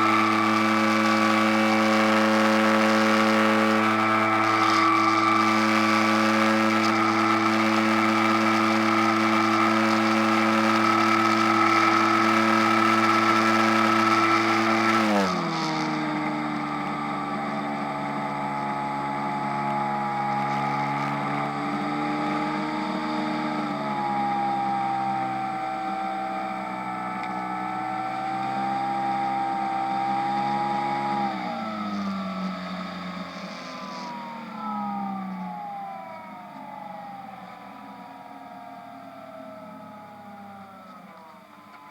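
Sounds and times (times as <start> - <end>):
model airplane motor running: 0.0 - 38.4.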